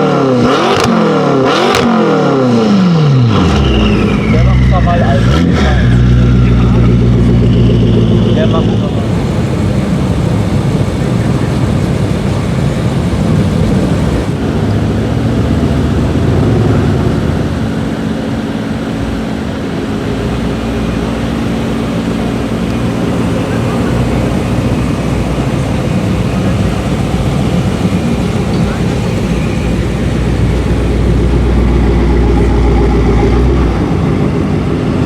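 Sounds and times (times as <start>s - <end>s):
car engine droning at low revs: 0.0s - 35.0s.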